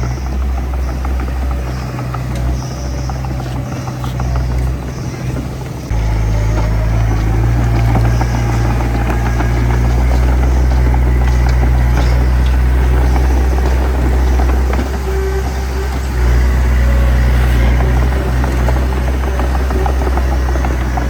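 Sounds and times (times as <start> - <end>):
bulldozer diesel engine: 0.0 - 21.0
metallic clanking of tracks: 0.0 - 21.0.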